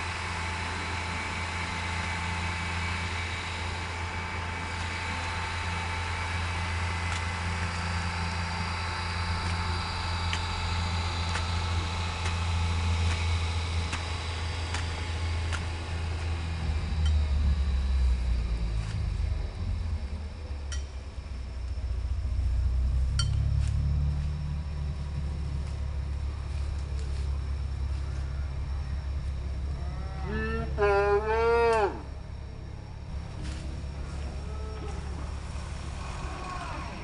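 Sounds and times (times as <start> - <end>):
car engine running: 0.0 - 29.9.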